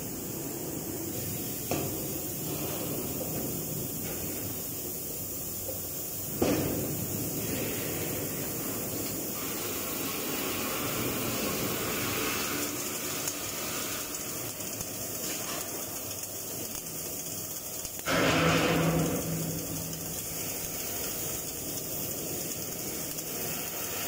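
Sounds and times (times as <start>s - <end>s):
steady sound with low hum: 0.0s - 24.0s
welding arc crackling and hissing: 0.0s - 24.0s.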